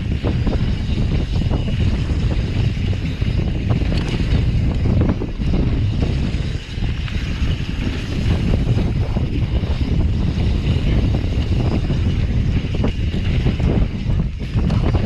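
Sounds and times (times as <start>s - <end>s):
bike knocks and rattles: 0.0s - 15.0s
tyres rumbling on dirt: 0.0s - 15.0s
wind buffeting microphone: 0.0s - 15.0s.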